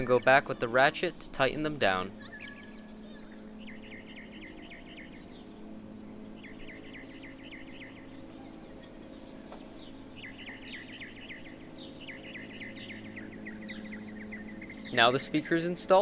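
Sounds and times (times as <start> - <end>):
birds chirping in trills: 0.0 - 16.0
steady low hum: 0.0 - 16.0.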